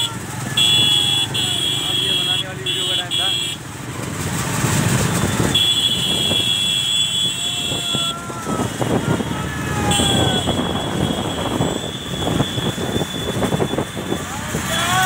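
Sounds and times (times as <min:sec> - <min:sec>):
motor vehicle noise: 0:00.0 - 0:15.0.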